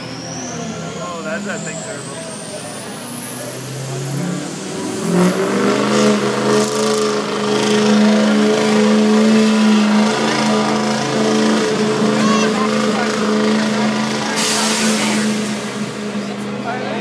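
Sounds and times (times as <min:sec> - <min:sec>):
pickup engine under full load: 0:00.0 - 0:17.0.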